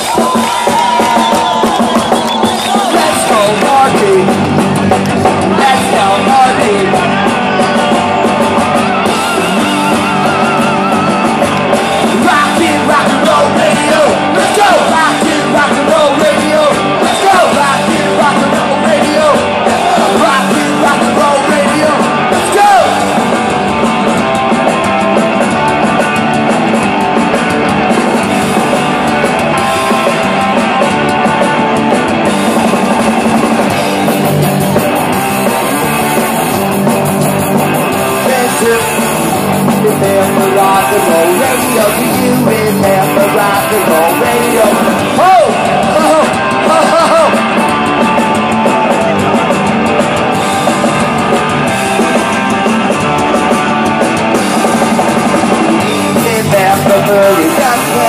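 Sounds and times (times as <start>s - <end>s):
drums: 0.0s - 58.0s
electric guitars: 0.0s - 58.0s.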